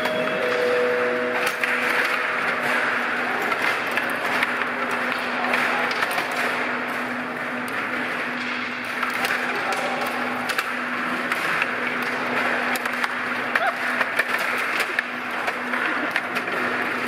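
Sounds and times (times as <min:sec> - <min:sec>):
puck and players clicking: 0:00.0 - 0:17.0.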